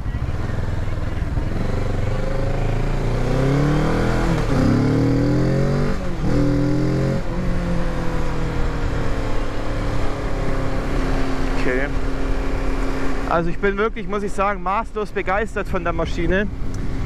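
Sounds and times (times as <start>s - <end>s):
motorcycle engine accelerating: 0.0s - 15.1s.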